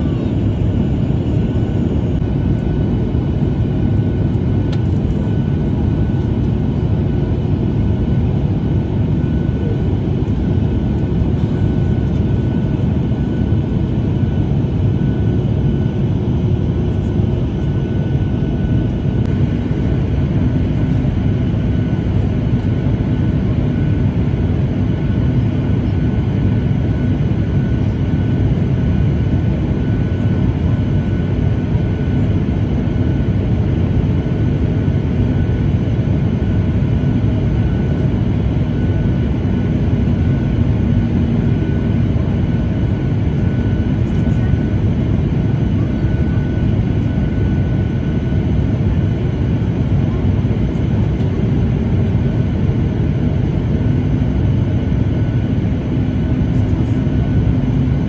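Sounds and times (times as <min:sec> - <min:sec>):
jet engine and airflow rumble: 0:00.0 - 0:58.0.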